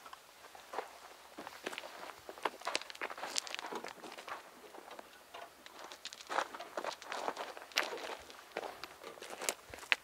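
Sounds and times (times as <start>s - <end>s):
footsteps on gravel: 0.7s - 10.0s.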